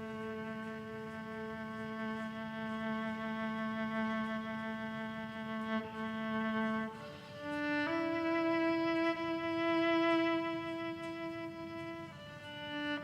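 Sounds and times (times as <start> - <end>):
violin slow melody: 0.0 - 13.0.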